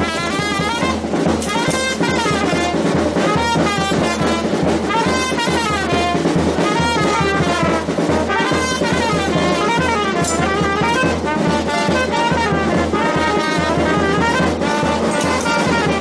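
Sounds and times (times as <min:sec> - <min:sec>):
brass band playing dance music: 0:00.0 - 0:16.0.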